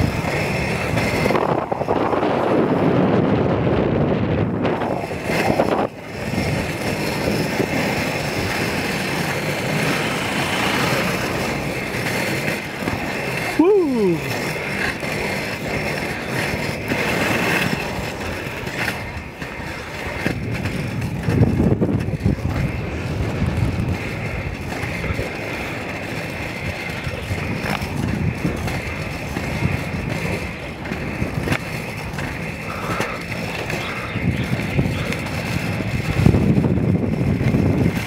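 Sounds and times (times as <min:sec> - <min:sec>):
skate wheels rolling on pavement: 0:00.0 - 0:38.0.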